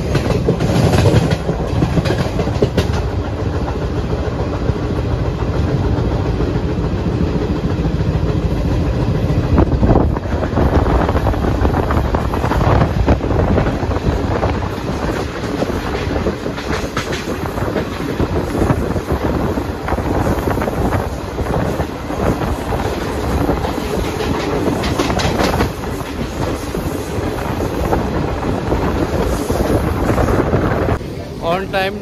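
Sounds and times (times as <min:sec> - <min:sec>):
clickety-clack over rail joints: 0:00.0 - 0:32.0
train wheels rumbling on rails: 0:00.0 - 0:32.0.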